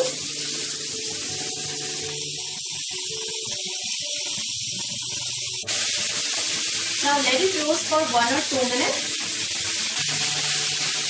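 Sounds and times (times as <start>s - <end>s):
onions frying in oil: 0.0s - 11.0s.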